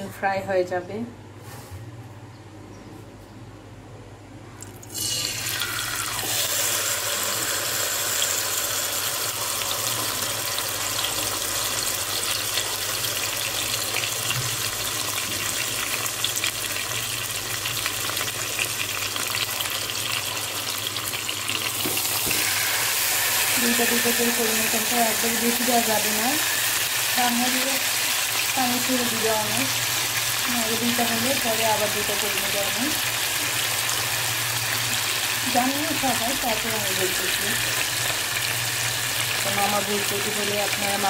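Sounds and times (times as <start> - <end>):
chicken sizzling in hot oil: 4.8 - 41.0.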